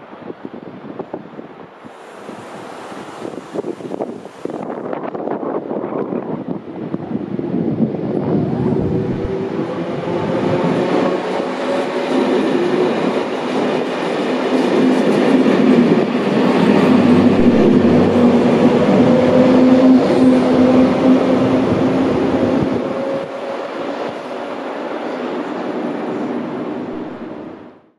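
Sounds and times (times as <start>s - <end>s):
train running on rails: 0.0s - 27.9s.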